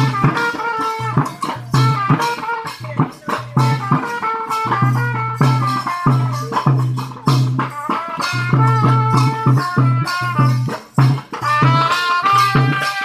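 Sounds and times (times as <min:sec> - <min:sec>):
fast dense percussion: 0:00.0 - 0:13.0.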